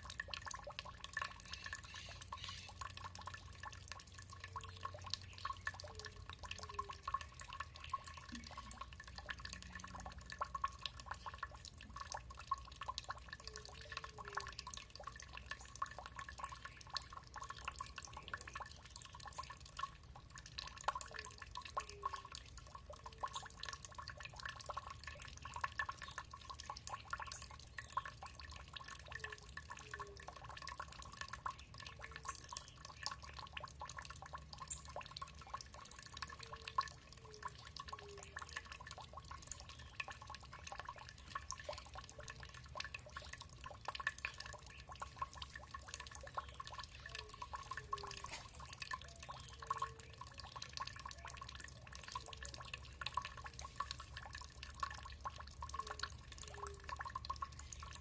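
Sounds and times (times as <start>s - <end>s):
faint steady tone: 0.0s - 58.0s
water trickling and dripping: 0.0s - 58.0s.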